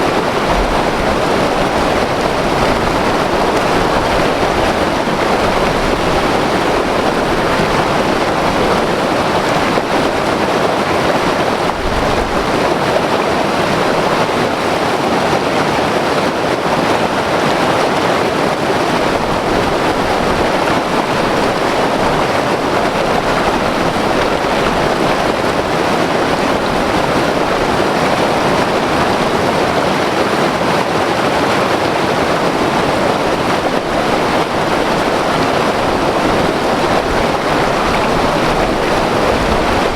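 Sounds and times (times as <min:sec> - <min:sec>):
wind on microphone rumble: 0:00.0 - 0:14.6, 0:15.6 - 0:39.9
river rushing over rapids: 0:00.0 - 0:39.9.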